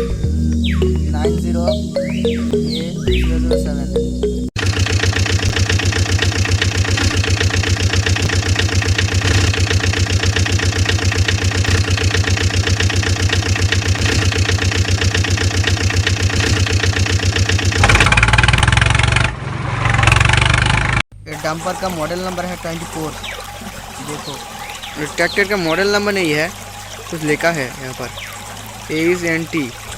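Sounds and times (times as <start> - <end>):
engine idling with rapid chugging: 4.6 - 29.9.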